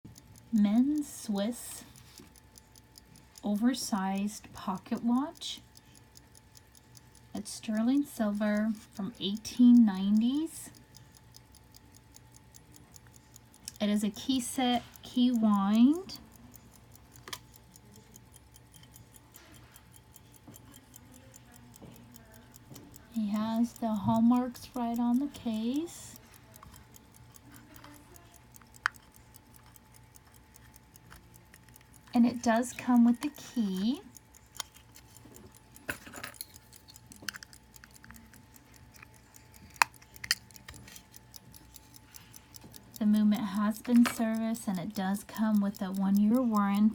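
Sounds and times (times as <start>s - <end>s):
pocket watch ticking: 0.0s - 46.9s.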